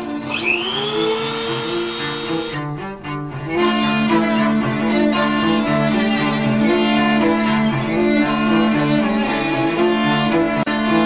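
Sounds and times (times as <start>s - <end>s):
bowed strings music: 0.0s - 11.0s.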